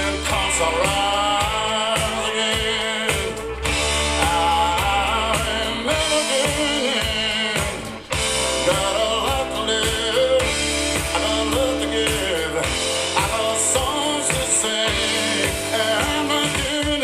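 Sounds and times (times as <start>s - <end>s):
rock song over loudspeakers: 0.0s - 17.0s.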